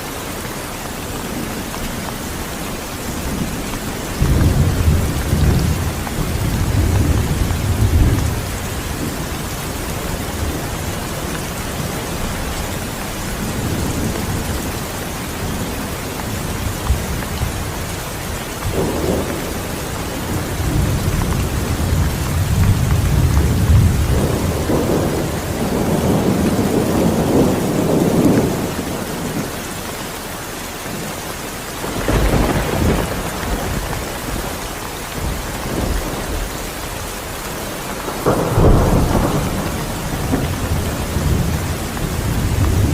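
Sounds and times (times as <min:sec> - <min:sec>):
heavy rain falling: 0:00.0 - 0:42.9
thunder rumbling: 0:01.0 - 0:29.6, 0:31.8 - 0:42.9.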